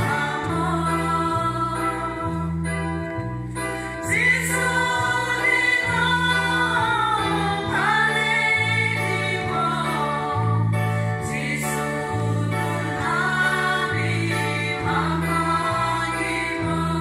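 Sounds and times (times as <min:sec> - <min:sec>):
women singing a hymn: 0:00.0 - 0:02.8, 0:03.8 - 0:17.0
instrumental backing with bass: 0:00.0 - 0:17.0.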